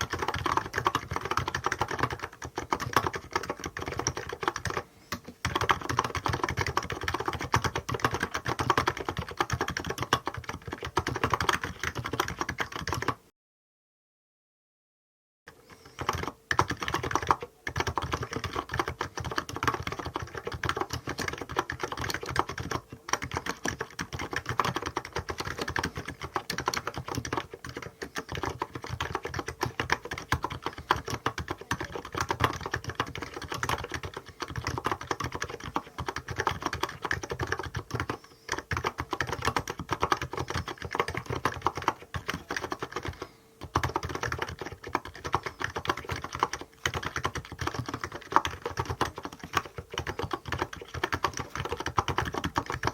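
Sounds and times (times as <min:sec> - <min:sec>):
fast typing on keyboard: 0:00.0 - 0:13.2, 0:15.7 - 0:52.9.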